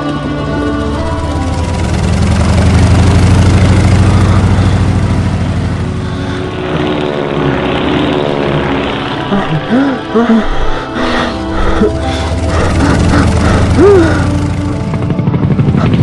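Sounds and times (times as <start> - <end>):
biplane engine and propeller: 0.0 - 16.0.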